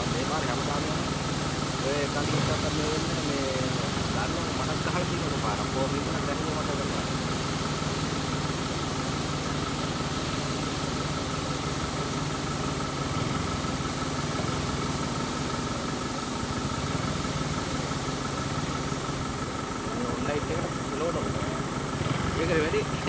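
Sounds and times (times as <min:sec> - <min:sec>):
thin steady whine: 0:00.0 - 0:23.0
vehicle engine idling: 0:00.0 - 0:23.0.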